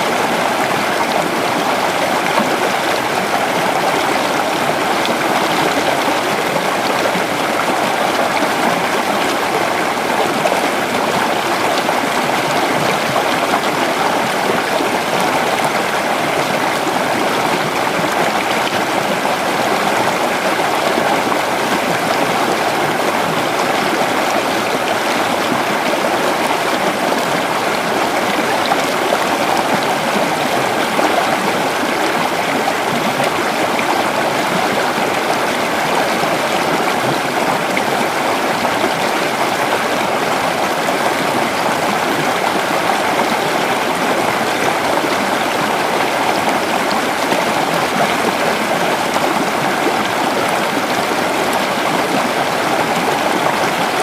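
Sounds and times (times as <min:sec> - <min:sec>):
creek water babbling over rocks: 0:00.0 - 0:54.0.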